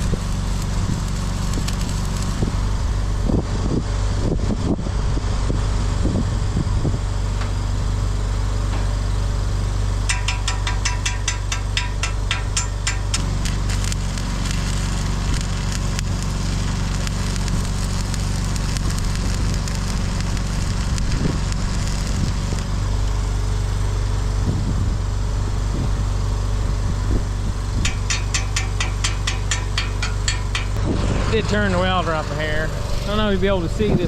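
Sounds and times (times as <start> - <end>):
welding arc crackling: 0.0 - 3.4, 9.7 - 34.0
engine humming: 0.0 - 34.0.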